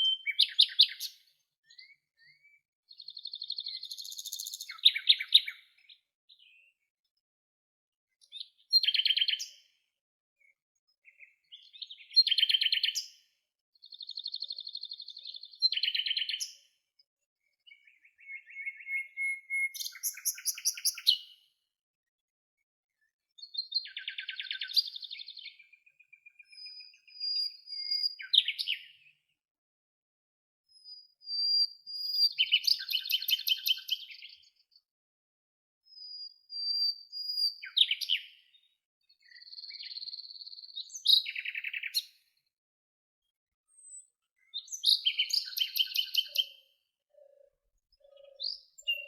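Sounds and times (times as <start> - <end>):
songbirds singing: 0.0 - 7.2, 8.1 - 21.7, 22.9 - 29.4, 30.7 - 34.9, 35.8 - 42.6, 43.2 - 49.0.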